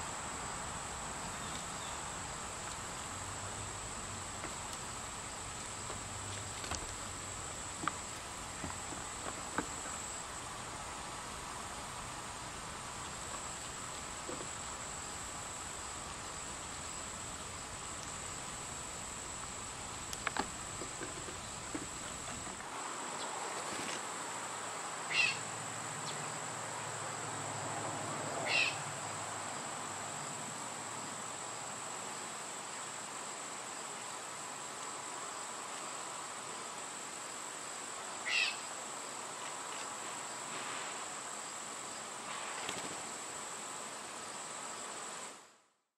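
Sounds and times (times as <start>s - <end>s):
outdoor hiss: 0.0s - 45.9s.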